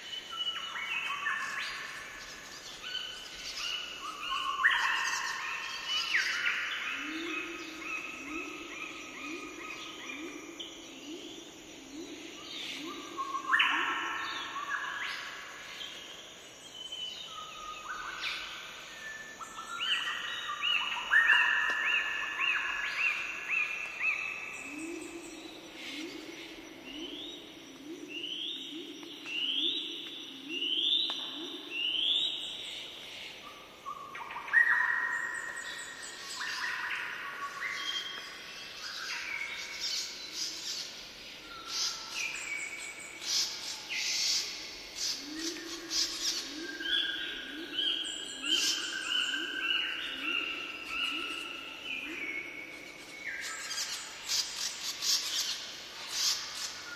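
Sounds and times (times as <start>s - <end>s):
birds singing whistled notes: 0.0s - 56.9s.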